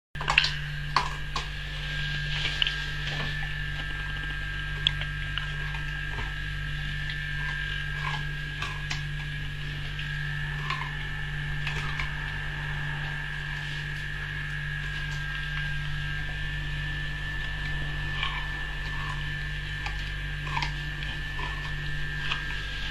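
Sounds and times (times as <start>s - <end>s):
dog's teeth scraping watermelon rind: 0.2s - 22.9s
steady electrical hum: 0.2s - 22.9s.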